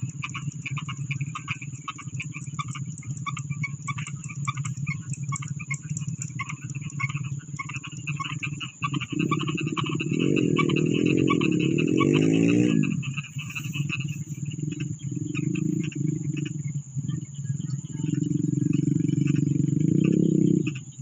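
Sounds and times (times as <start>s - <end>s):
frogs croaking: 0.0s - 21.0s
steady low hum: 0.0s - 21.0s.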